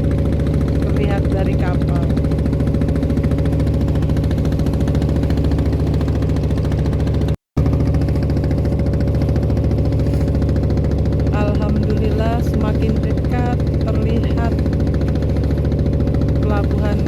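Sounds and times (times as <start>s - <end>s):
diesel boat engine running: 0.0s - 17.0s.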